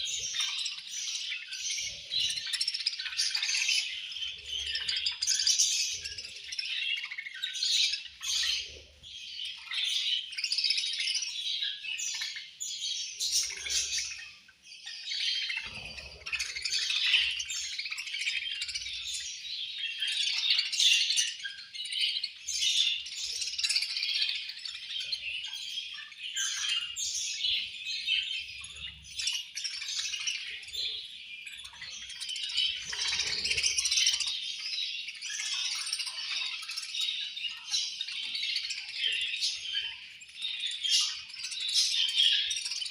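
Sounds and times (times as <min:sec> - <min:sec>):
budgerigars chattering: 0:00.0 - 0:42.9.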